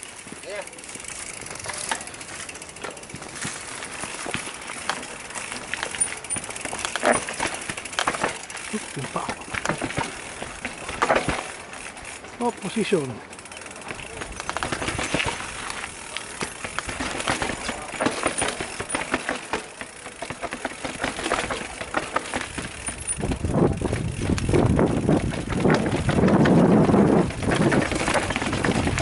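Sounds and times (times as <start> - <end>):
mountain bike clattering down steps: 0.0 - 29.0.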